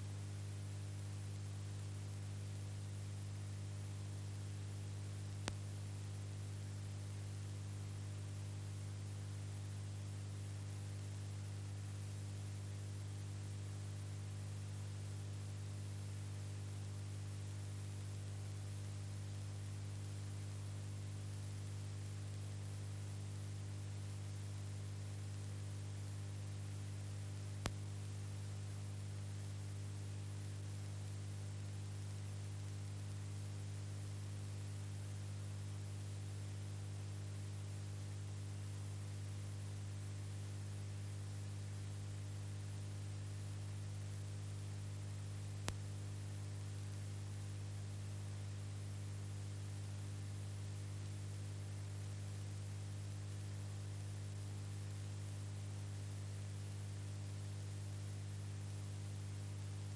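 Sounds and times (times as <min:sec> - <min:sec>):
electrical hum with hiss: 0:00.0 - 0:59.9.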